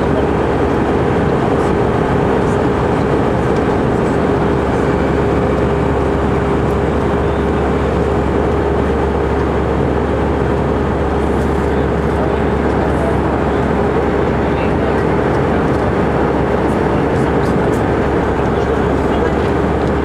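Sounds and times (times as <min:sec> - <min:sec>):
aircraft cabin rumble: 0:00.0 - 0:20.0
constant hum: 0:00.0 - 0:20.0.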